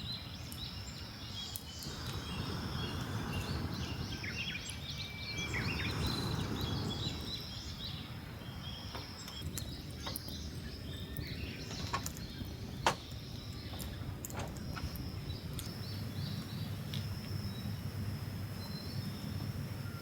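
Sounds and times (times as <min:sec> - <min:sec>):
birds chirping: 0:00.0 - 0:20.0
faint high insect hum: 0:00.0 - 0:20.0
steady low rumble: 0:01.7 - 0:19.8.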